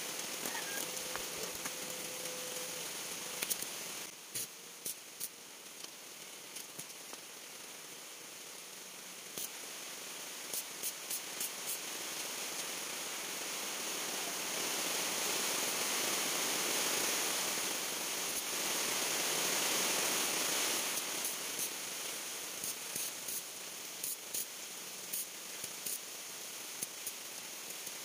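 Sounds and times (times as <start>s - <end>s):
arc welding hiss: 0.0s - 28.0s
welding arc crackling spurts: 0.0s - 28.0s.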